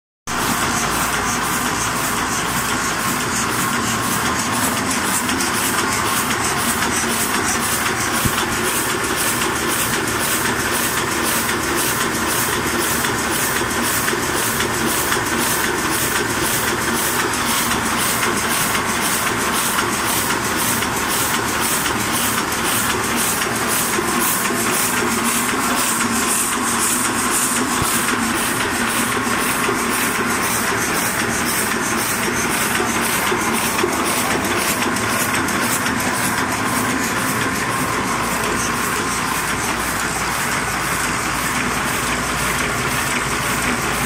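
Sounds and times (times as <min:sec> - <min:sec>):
printing press clattering: 0:00.4 - 0:44.0.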